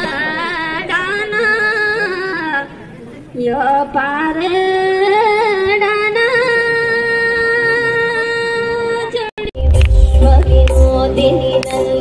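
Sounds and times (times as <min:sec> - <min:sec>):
person singing through loudspeakers: 0:00.0 - 0:12.0.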